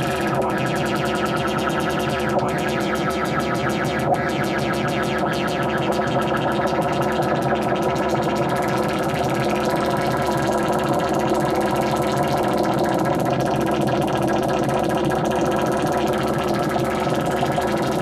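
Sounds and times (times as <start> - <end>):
modular synthesizer drone: 0.0 - 18.0.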